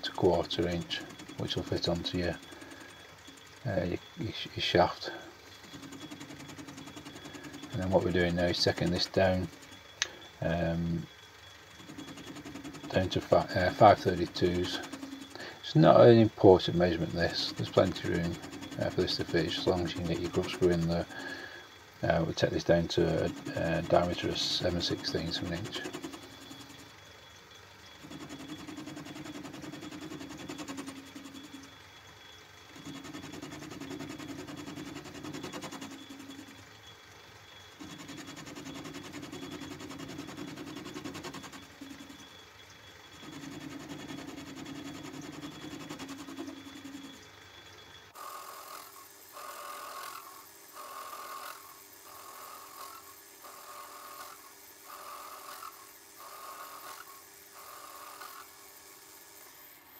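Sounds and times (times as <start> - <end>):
lathe running: 0.0 - 59.9.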